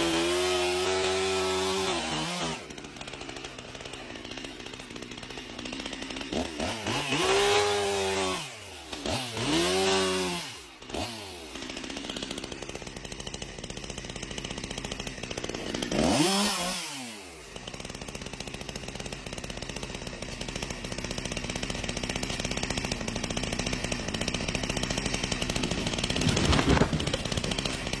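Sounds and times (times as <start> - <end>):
chainsaw engine revving and idling: 0.0 - 28.0.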